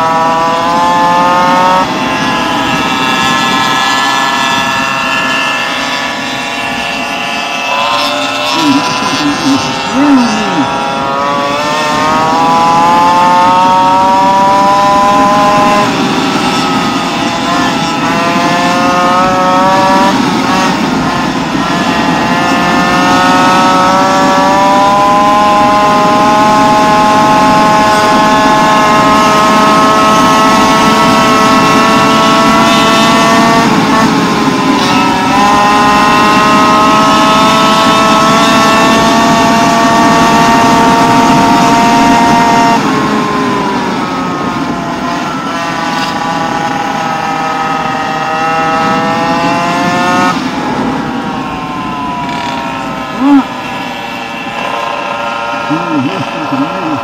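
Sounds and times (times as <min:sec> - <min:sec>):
wind noise: 0:00.0 - 0:54.5
two-stroke engine at high revs: 0:00.0 - 0:57.0.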